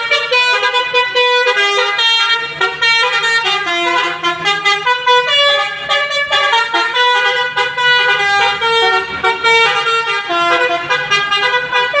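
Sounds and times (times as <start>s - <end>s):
multi-tone bus horn tune: 0.0s - 12.0s.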